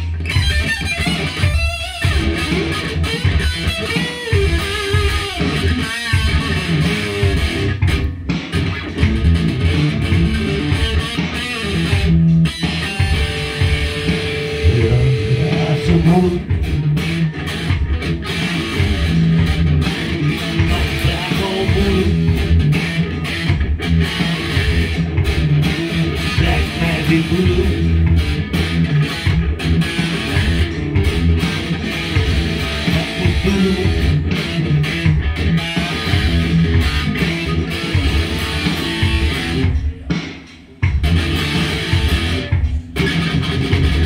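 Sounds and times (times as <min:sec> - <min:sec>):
electric guitar riff: 0:00.0 - 0:44.0.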